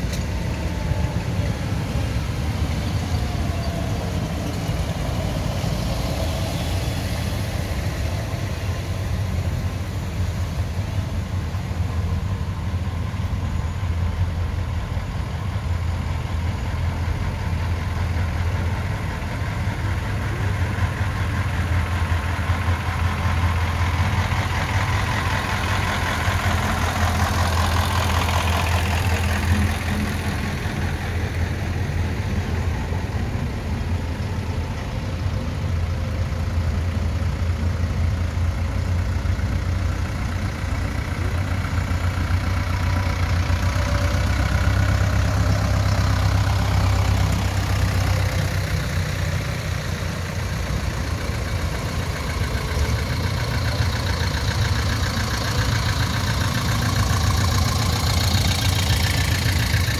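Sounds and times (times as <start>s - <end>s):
tractor engines passing: 0.0s - 59.9s.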